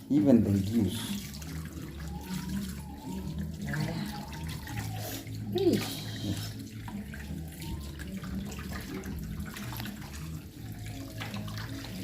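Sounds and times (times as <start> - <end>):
running water splashing: 0.0 - 12.0.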